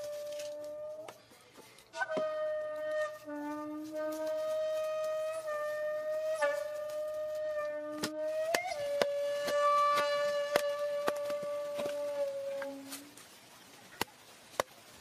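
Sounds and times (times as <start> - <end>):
flute-like long note: 0.0 - 1.2, 1.9 - 13.2.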